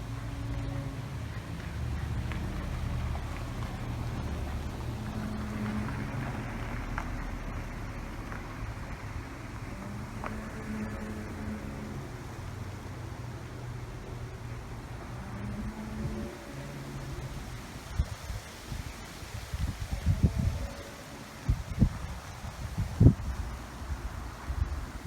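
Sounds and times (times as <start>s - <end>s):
faint drone: 0.0s - 25.0s
low steady rumble: 0.0s - 25.0s.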